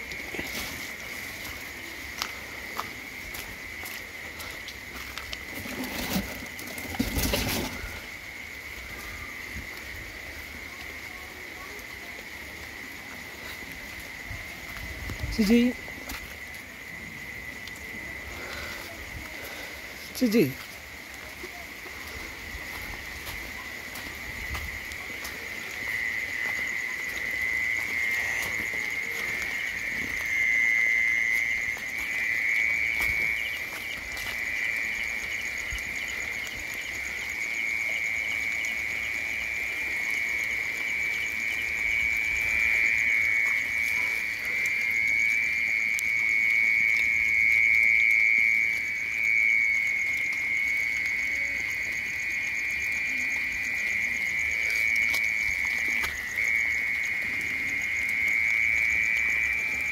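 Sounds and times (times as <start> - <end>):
frogs or insects trilling: 0.0 - 59.9.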